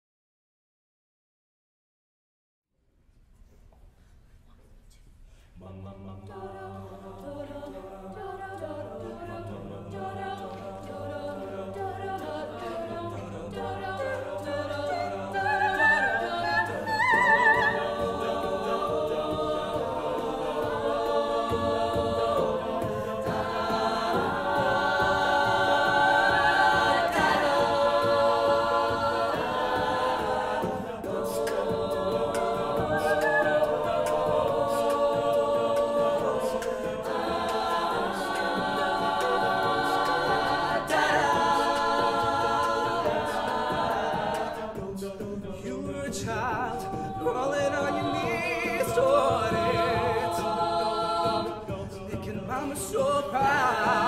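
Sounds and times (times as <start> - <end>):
a cappella group singing: 5.3 - 54.0.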